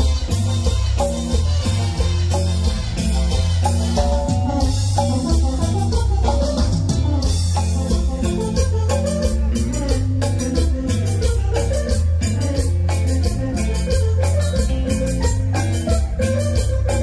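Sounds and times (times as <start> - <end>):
drum kit beat: 0.0 - 17.0
electric bass line: 0.0 - 17.0
guitar melody: 0.0 - 17.0.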